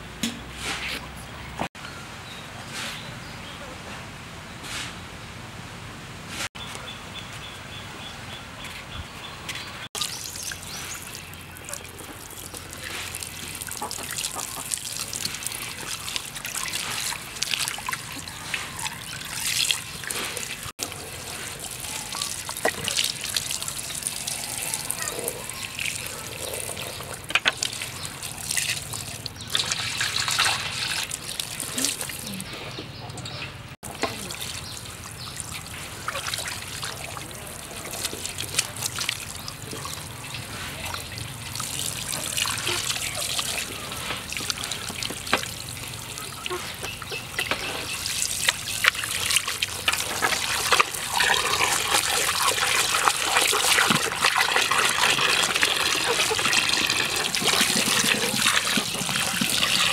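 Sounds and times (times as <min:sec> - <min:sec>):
hands washing fish: 0:10.0 - 0:32.3, 0:33.8 - 0:59.9
running water splashing into metal basin: 0:10.0 - 0:32.3, 0:33.9 - 0:59.9.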